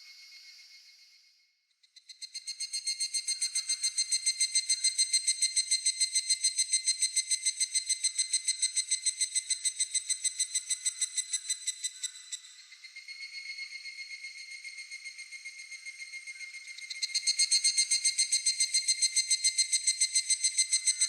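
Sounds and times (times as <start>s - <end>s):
cicada ringing call: 2.0s - 21.0s.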